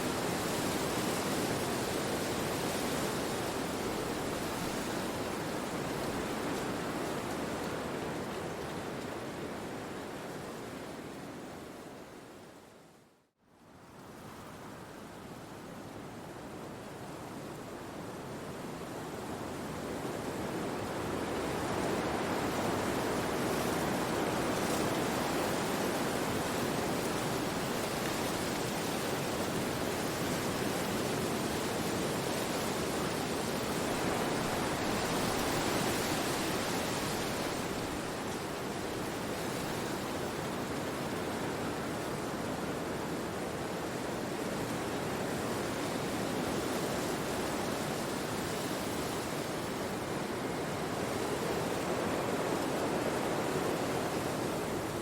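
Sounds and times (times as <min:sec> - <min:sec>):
wind through forest trees: 0:00.0 - 0:55.0.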